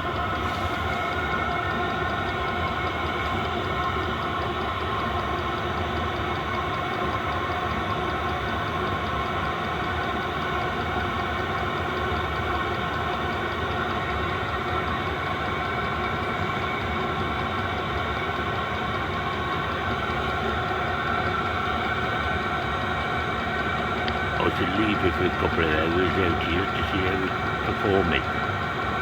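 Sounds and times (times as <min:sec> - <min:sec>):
diesel air heater humming: 0:00.0 - 0:29.0.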